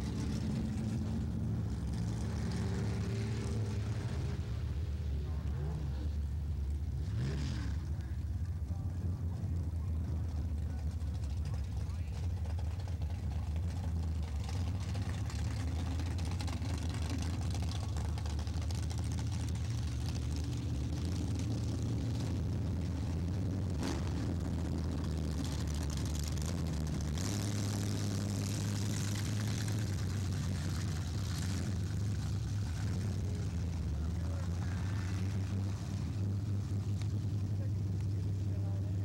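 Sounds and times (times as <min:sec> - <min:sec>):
drag car engines idling: 0:00.0 - 0:39.0.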